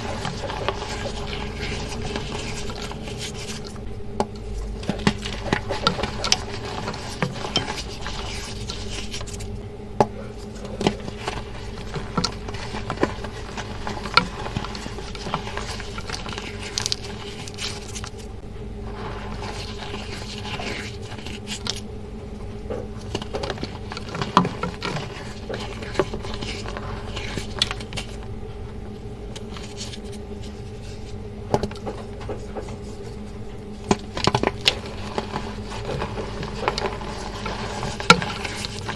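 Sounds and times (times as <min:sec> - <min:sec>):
powder blocks crunching: 0:00.0 - 0:09.6, 0:10.4 - 0:21.9, 0:22.6 - 0:28.3, 0:29.4 - 0:38.9
steady low hum: 0:00.0 - 0:38.9.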